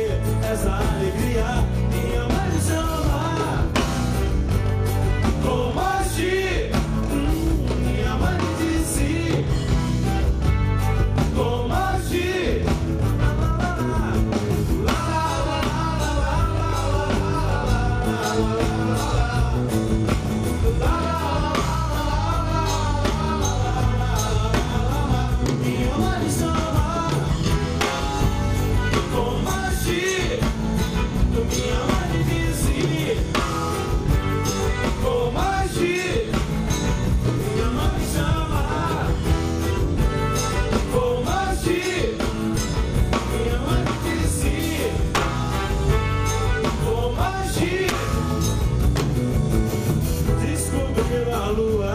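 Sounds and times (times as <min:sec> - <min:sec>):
man singing: 0:00.0 - 0:48.9, 0:50.2 - 0:51.9
acoustic guitar: 0:00.0 - 0:51.9
live band playing: 0:00.0 - 0:51.9.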